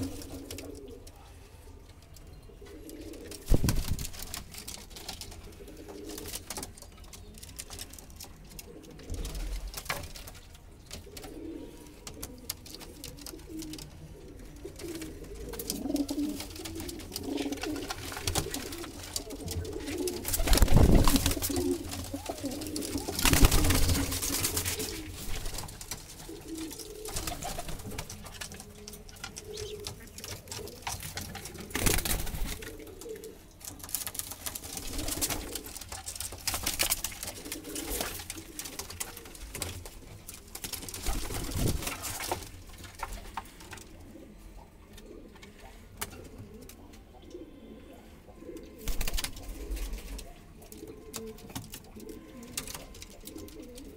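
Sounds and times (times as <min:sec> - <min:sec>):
pigeons cooing: 0:00.0 - 0:53.9.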